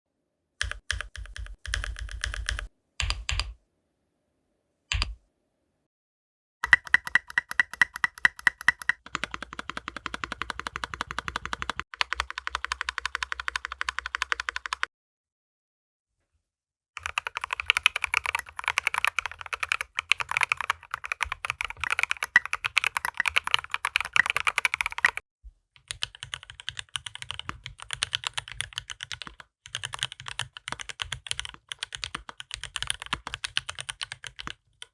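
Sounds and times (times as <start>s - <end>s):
mechanical keyboard typing: 0.6s - 3.6s, 6.6s - 14.9s, 17.0s - 25.2s, 25.8s - 34.9s.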